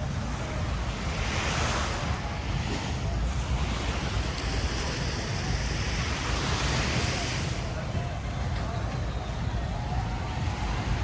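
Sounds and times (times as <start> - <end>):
sea waves breaking on shore: 0.0 - 11.0
wind rumble on microphone: 0.0 - 11.0.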